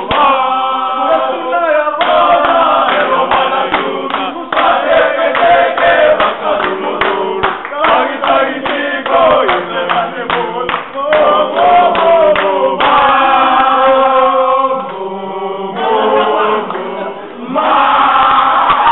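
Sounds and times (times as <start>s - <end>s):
rhythmic hand clapping: 0.0s - 1.3s, 2.0s - 18.9s
young men singing in chorus: 0.0s - 18.9s.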